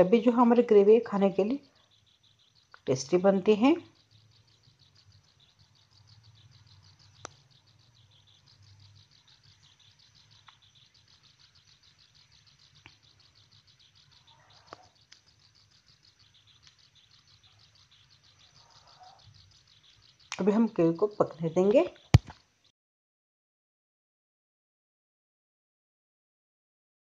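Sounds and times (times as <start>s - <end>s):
high chirping: 0.0s - 22.4s.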